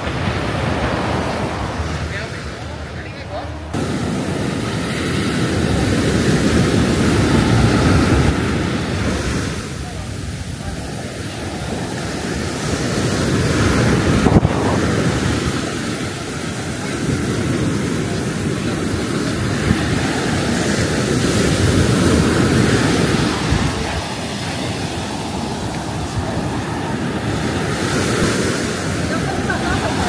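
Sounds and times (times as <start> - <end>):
sea waves breaking: 0.0 - 30.0
wind rumbling on microphone: 0.0 - 30.0.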